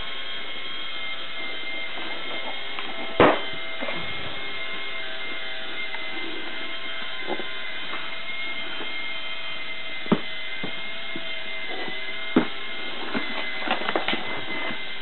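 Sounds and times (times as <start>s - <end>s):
mechanical drone with whine: 0.0s - 15.0s.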